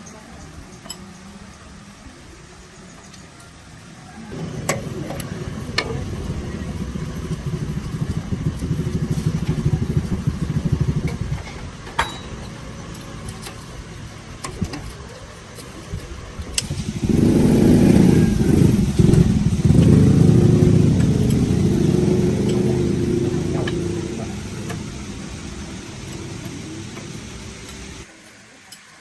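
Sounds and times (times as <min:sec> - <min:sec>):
engine rumbling: 0:00.0 - 0:28.1.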